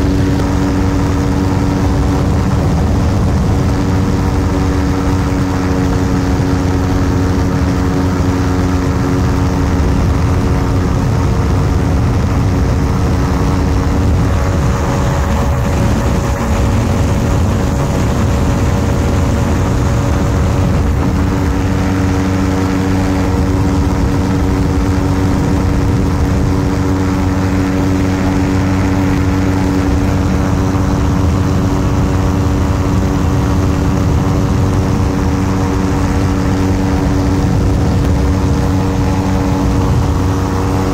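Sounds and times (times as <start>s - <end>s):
light aircraft engine drone: 0.0s - 40.9s
rushing noise: 0.0s - 40.9s.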